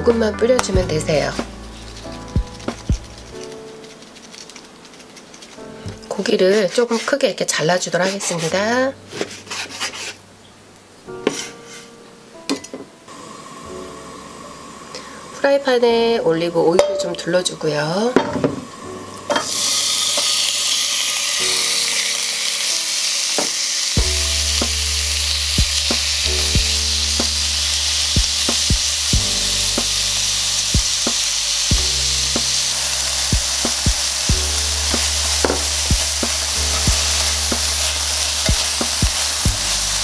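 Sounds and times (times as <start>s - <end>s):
meat sizzling in a frying pan: 0.6s - 6.5s, 13.1s - 40.0s.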